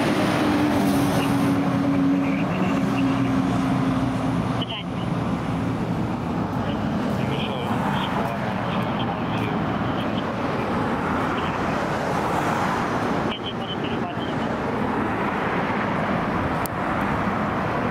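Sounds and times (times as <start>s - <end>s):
road and traffic noise: 0.0s - 17.9s.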